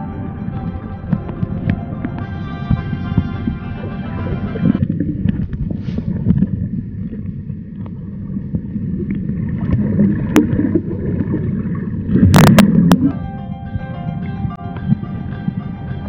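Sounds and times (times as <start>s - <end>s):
muffled underwater churning: 0.0s - 16.0s.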